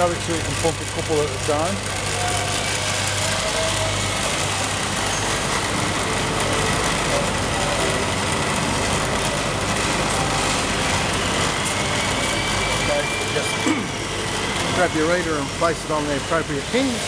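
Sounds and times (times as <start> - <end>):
vacuum pump running: 0.0 - 17.0.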